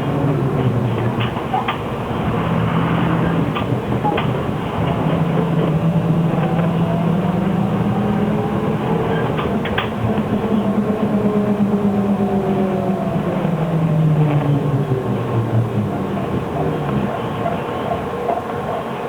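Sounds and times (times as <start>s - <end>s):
trolleybus motor and road drone: 0.0s - 19.0s.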